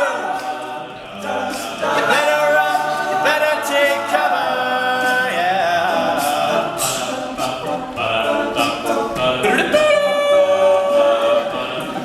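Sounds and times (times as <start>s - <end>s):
male group singing in harmony: 0.0s - 12.0s
vocal percussion hits: 0.0s - 12.0s.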